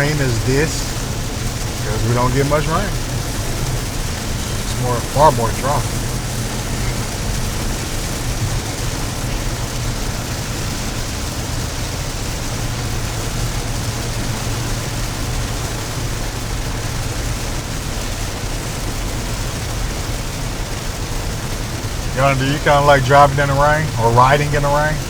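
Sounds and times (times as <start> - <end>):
engine humming: 0.0 - 25.0
rain on a car: 0.0 - 25.0
tyre and road noise: 0.0 - 25.0.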